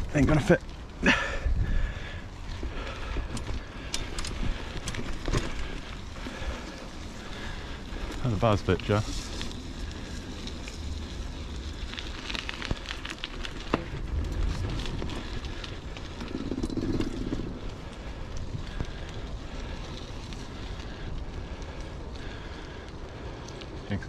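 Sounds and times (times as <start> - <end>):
bike rattles and knocks: 0.0 - 21.1
bike tyres rumbling on dirt: 0.0 - 24.0.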